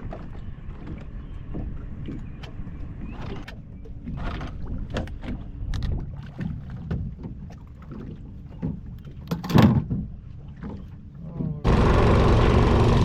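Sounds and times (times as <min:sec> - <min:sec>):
gear knocking in a boat: 0:00.0 - 0:11.7
wind and water rumble: 0:00.0 - 0:13.0.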